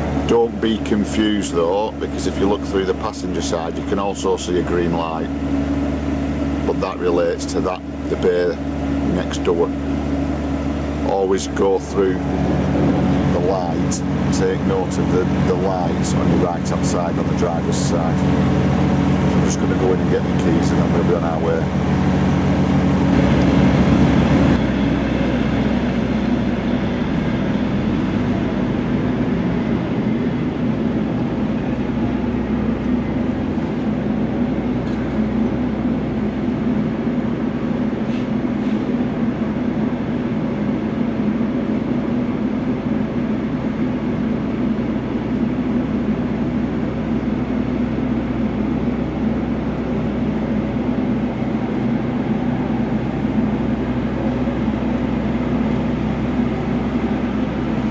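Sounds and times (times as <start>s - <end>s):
diesel fridge unit drone: 0.0s - 57.9s.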